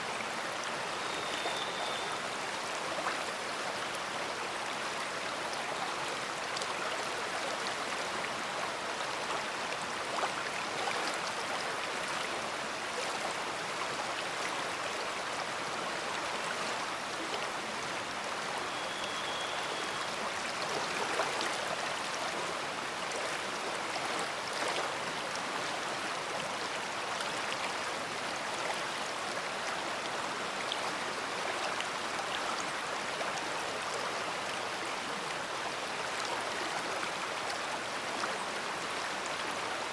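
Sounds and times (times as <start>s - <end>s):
large river flowing: 0.0s - 39.9s.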